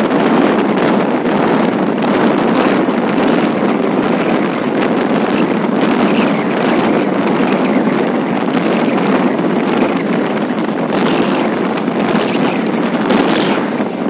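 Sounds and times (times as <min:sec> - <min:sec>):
train running noise inside carriage: 0:00.0 - 0:14.0
wind on microphone: 0:00.0 - 0:14.0.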